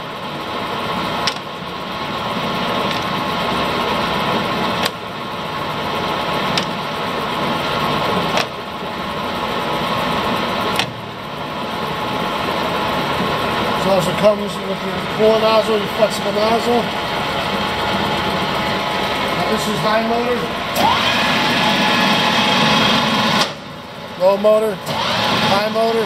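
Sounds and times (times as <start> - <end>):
lathe gear hum: 0.0 - 26.0.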